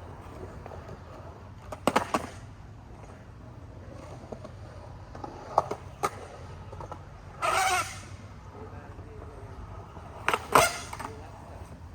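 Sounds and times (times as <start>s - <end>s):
skateboard clacking on concrete: 0.0s - 11.9s.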